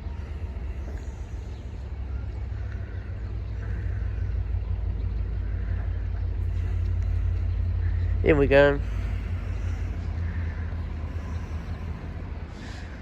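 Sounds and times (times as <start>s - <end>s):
diesel locomotive rumble: 0.0s - 13.0s.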